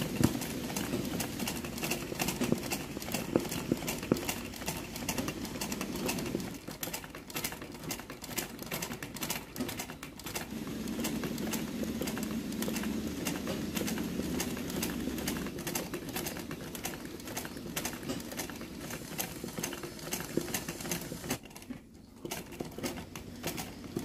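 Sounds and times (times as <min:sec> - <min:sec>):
sewing machine needle clattering: 0:00.0 - 0:24.0.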